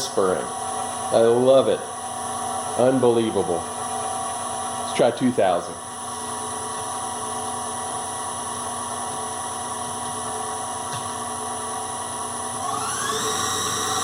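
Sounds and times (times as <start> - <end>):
drive belt whine: 0.0 - 14.0
lathe spindle running: 0.0 - 14.0.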